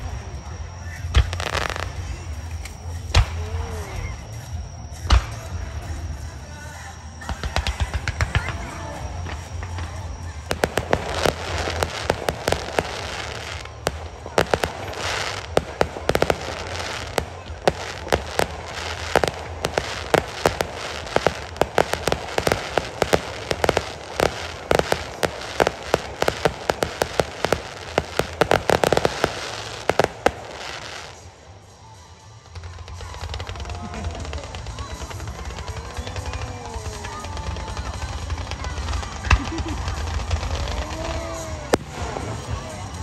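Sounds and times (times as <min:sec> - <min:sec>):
fireworks bangs: 0:00.0 - 0:43.0
fireworks crackle: 0:00.0 - 0:43.0.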